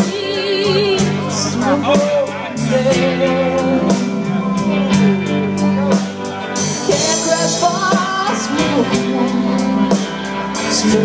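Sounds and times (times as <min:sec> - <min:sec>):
live band with electric guitars: 0:00.0 - 0:11.0
person singing: 0:00.0 - 0:11.0.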